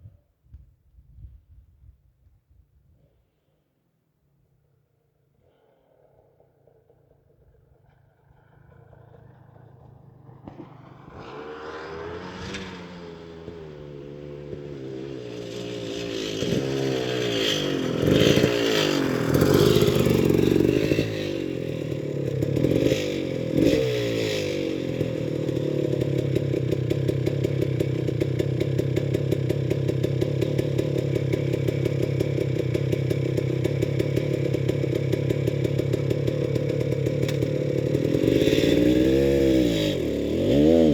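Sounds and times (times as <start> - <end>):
motorcycle engine climbing: 6.4 - 40.9.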